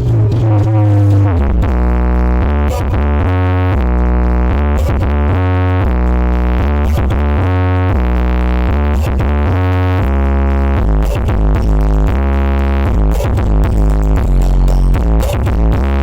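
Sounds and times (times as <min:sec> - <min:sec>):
electronic dance music: 0:00.0 - 0:16.0.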